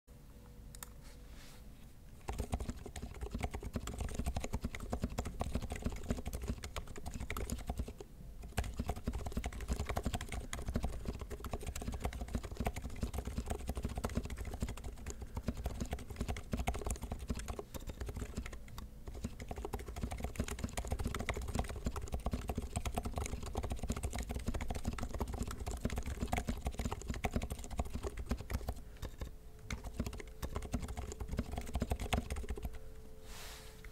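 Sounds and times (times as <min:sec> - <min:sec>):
fast mechanical keyboard typing: 0:02.2 - 0:32.8.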